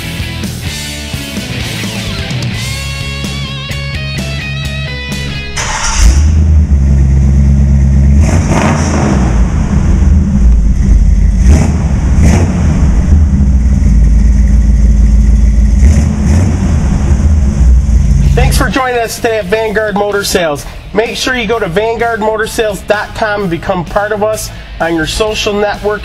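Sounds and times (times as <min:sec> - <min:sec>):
car engine revving: 0:01.2 - 0:26.0.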